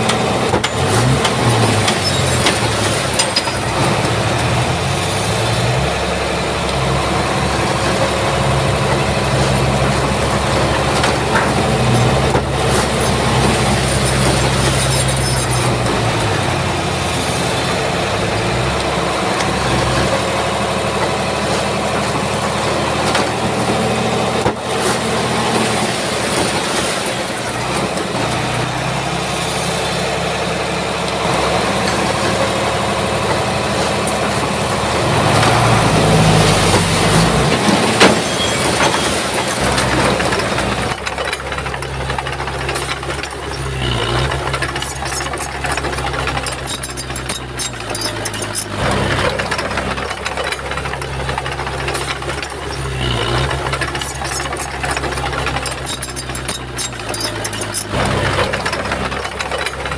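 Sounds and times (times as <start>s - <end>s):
bulldozer diesel engine: 0.0s - 59.9s.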